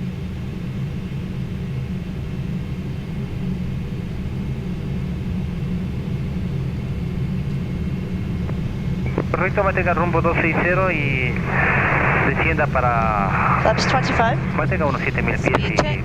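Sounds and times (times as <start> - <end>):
aircraft cockpit low rumble: 0.0 - 16.0.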